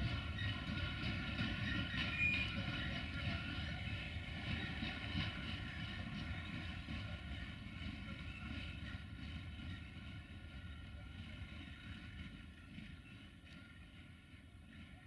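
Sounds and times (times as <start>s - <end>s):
rail rumble: 0.0s - 15.0s.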